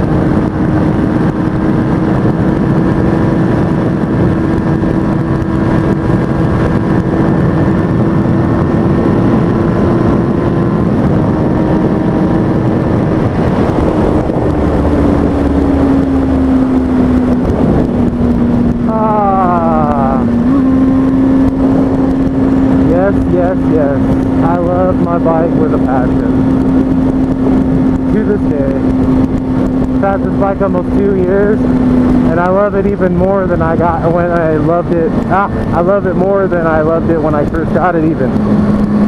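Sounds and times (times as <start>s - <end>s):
motorcycle engine cruising: 0.0s - 39.0s
wind rush on microphone: 0.0s - 39.0s.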